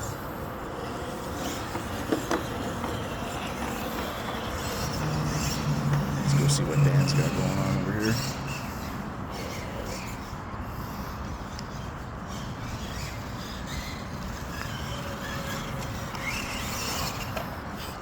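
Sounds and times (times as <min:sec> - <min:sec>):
rc crawler motor whine: 0:00.0 - 0:18.0.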